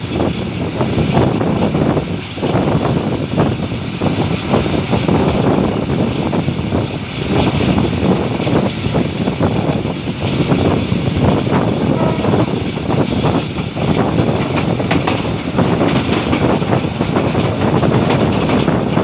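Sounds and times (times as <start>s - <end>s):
train rumble and clatter: 0.0s - 19.0s
wind buffeting microphone: 0.0s - 19.0s.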